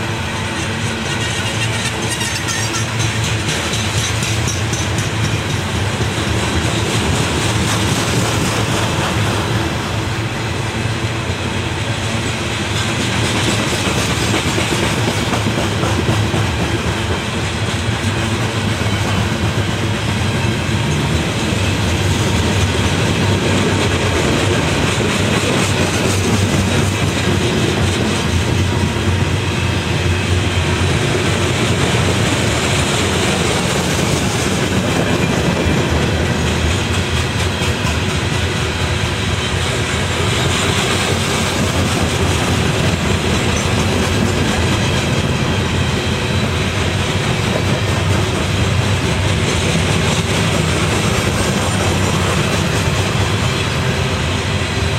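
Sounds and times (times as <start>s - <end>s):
train wheels on rail: 0.0s - 54.9s.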